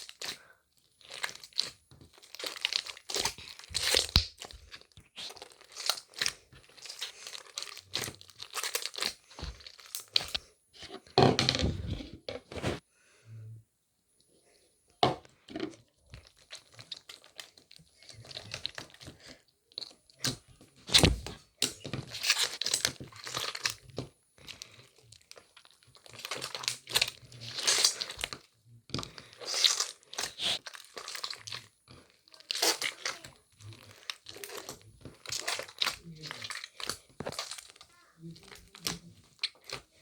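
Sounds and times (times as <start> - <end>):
crinkling and tearing: 1.0 - 10.4, 16.2 - 28.4, 29.0 - 40.0.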